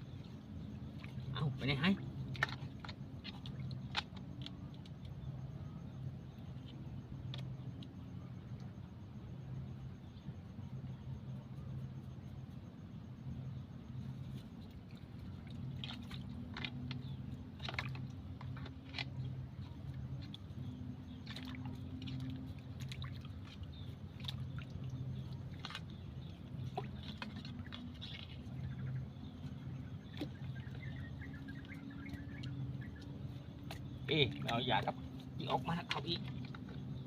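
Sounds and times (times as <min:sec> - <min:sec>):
steady low hum: 0:00.0 - 0:37.0
wet mud clicks pops and drips: 0:00.2 - 0:05.5, 0:06.5 - 0:08.8, 0:14.6 - 0:37.0.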